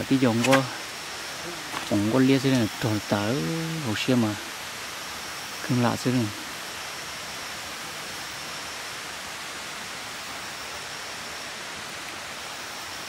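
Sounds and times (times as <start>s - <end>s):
forest background hiss: 0.0s - 13.0s.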